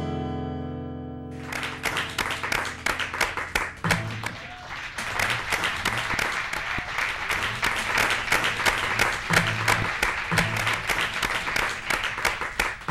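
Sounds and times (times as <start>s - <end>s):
audience clapping: 1.3s - 12.9s.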